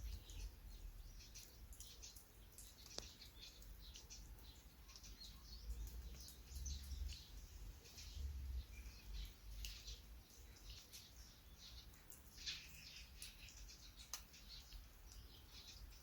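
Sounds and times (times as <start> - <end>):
light rain dripping and ticking: 0.0 - 16.0.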